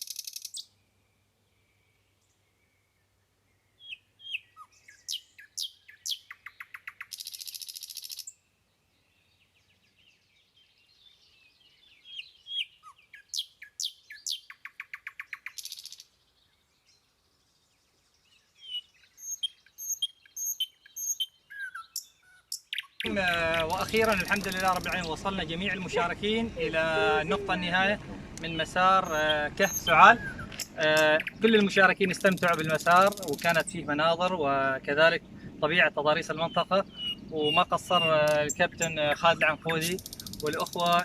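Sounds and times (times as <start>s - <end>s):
songbird chirping and whistling: 0.0s - 8.4s, 9.0s - 27.8s, 28.4s - 34.0s, 36.2s - 41.0s.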